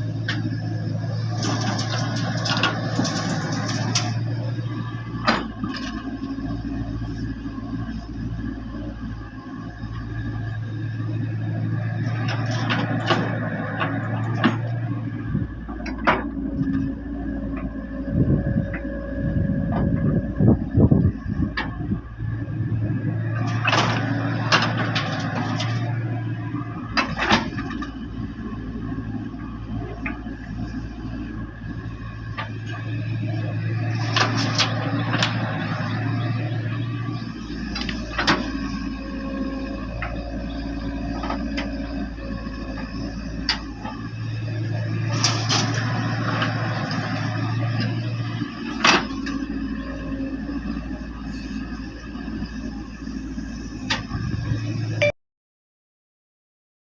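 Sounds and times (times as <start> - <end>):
excavator diesel engine running: 0.0 - 55.2.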